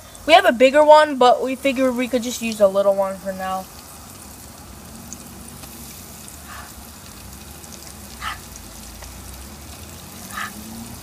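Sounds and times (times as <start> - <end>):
oil sizzling in deep fryer: 0.0 - 11.0.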